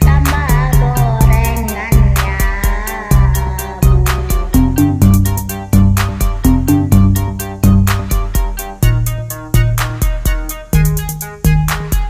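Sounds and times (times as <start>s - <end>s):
sustained low synth notes: 0.0s - 11.7s
deep electronic bass hits: 0.0s - 12.0s
ticking hi-hats: 0.0s - 12.0s.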